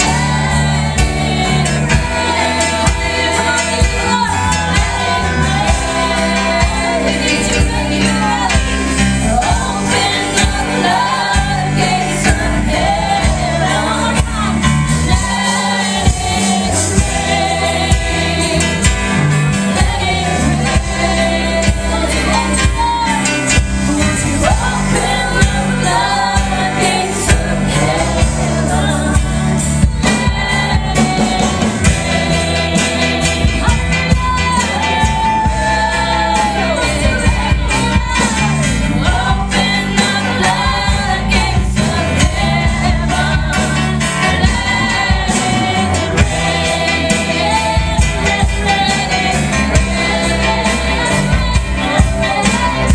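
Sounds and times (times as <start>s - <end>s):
instrumental backing with bass: 0.0s - 52.9s
women singing gospel song: 0.0s - 52.9s.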